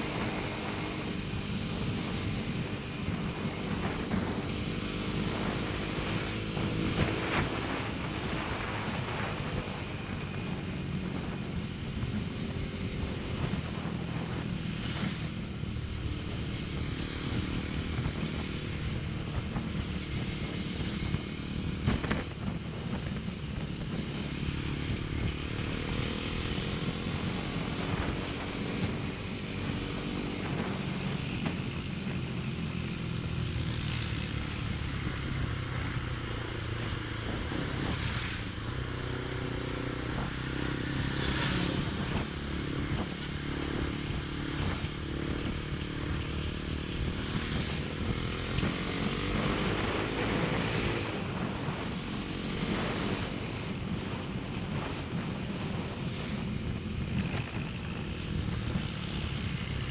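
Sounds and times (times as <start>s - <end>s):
motorcycle engine cruising: 0.0s - 59.9s
wind on microphone: 0.0s - 59.9s.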